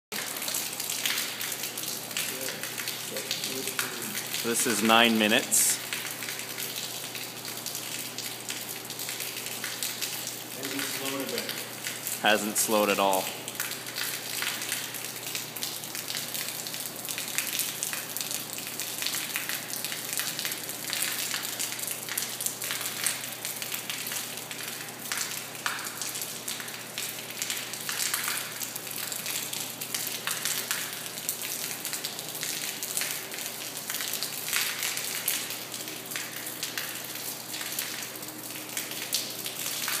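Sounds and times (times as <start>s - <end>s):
water splashing onto concrete floor: 0.1s - 40.0s.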